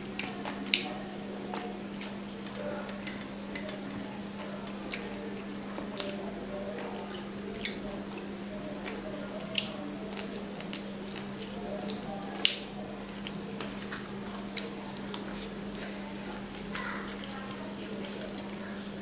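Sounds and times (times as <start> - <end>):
person chewing food: 0.1 - 6.2, 6.8 - 19.0.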